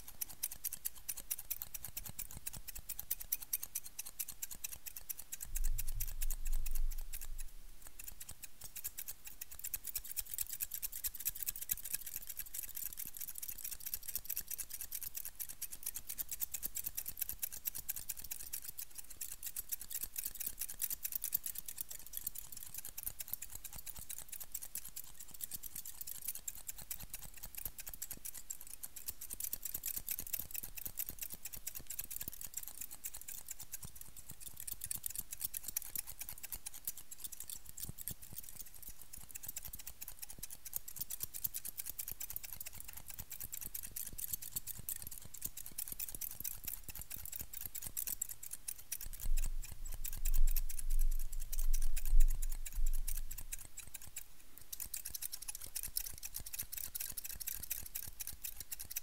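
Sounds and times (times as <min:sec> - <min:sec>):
scissors snipping fast: 0:00.0 - 0:59.0.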